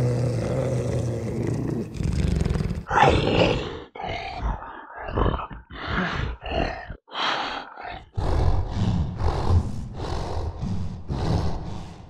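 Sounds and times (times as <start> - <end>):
creature snarling growls: 0.0 - 7.0, 7.8 - 12.0
growled breaths: 0.0 - 12.0.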